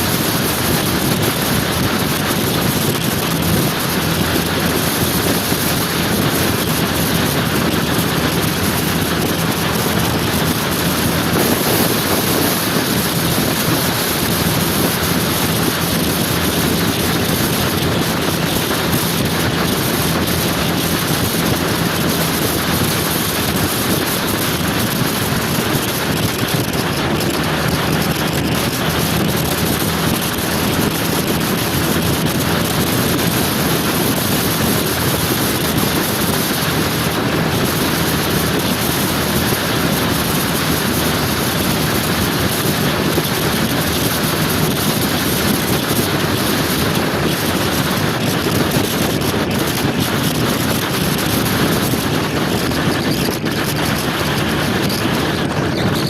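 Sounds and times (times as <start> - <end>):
scooter engine hum: 0.0 - 56.0
wind rushing over microphone: 0.0 - 56.0.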